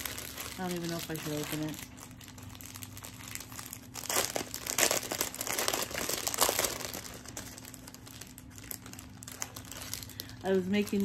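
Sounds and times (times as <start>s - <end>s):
plastic package crinkling: 0.0s - 11.0s.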